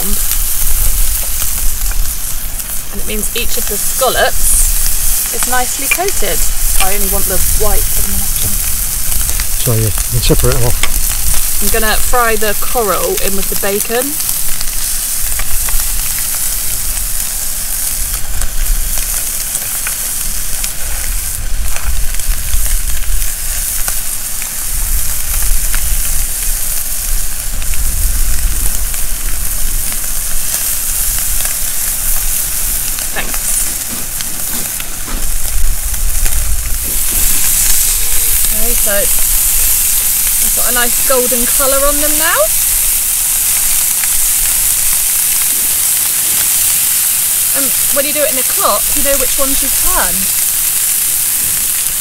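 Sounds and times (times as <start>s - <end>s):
scallops sizzling in a frying pan: 0.0s - 52.0s.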